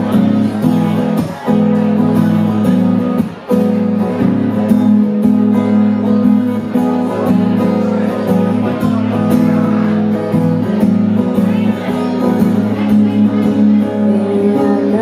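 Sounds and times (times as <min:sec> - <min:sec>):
acoustic guitar strummed chords: 0:00.0 - 0:15.0.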